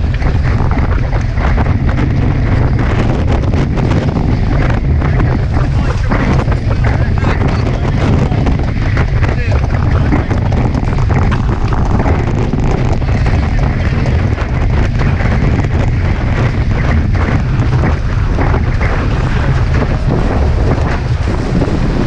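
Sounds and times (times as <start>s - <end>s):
heavy wind buffeting microphone: 0.0s - 22.0s
water rushing past hulls: 0.0s - 22.0s.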